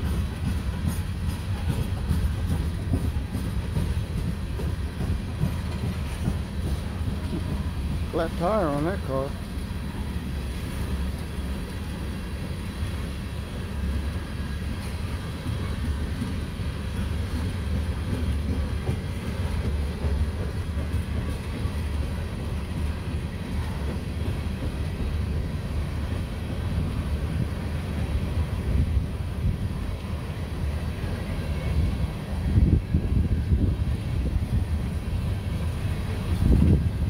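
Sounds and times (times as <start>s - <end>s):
freight cars rumbling on rails: 0.0s - 37.0s.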